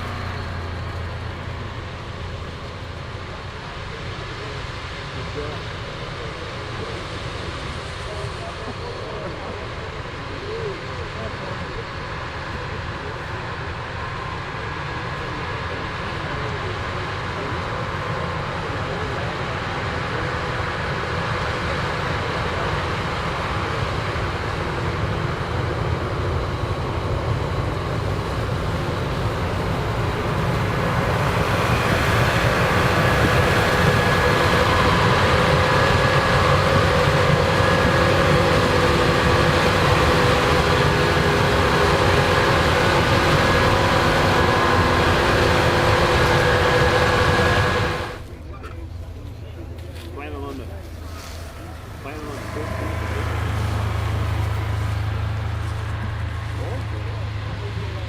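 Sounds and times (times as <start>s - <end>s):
combine harvester drone and whine: 0.0s - 58.0s.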